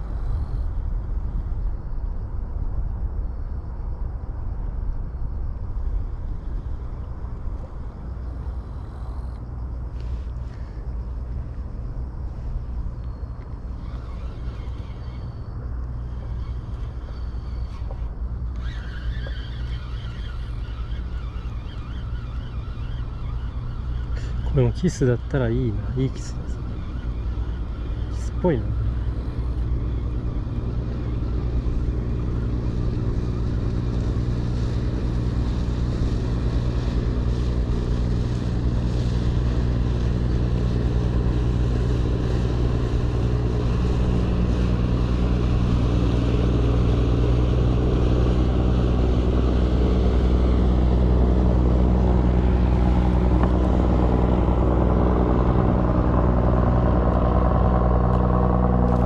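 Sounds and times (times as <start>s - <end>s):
motorboat engine droning: 0.0s - 59.0s.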